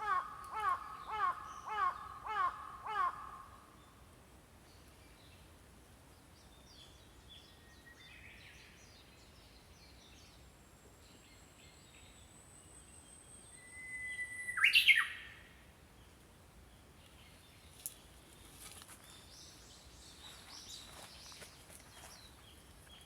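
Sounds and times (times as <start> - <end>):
small birds chirping faintly: 0.0 - 23.0.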